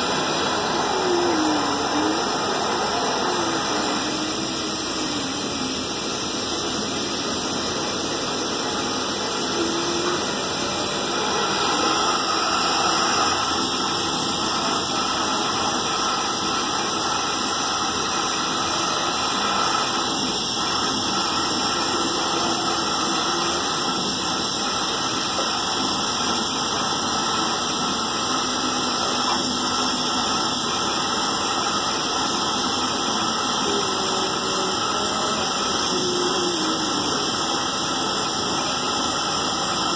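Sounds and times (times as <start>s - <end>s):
welding torch hissing: 0.0s - 39.9s.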